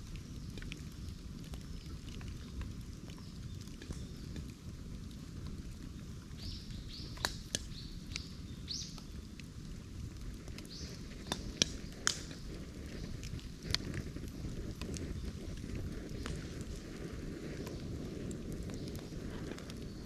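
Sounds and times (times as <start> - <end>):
bamboo fire crackling: 0.0 - 20.0.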